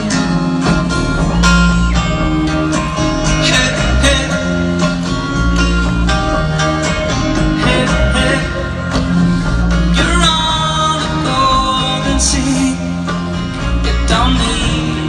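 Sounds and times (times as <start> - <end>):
live rock band instrumental: 0.0 - 15.0.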